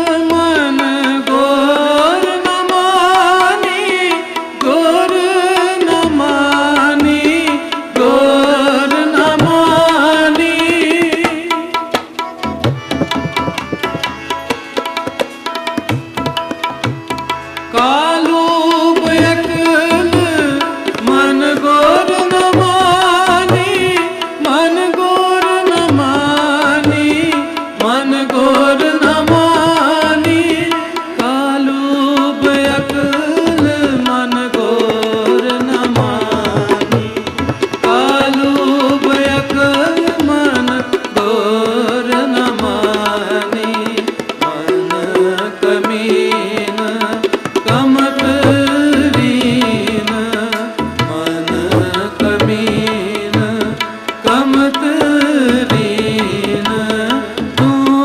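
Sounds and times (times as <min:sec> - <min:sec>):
ornamented wordless melody: 0:00.0 - 0:58.0
tabla rhythm: 0:00.0 - 0:58.0.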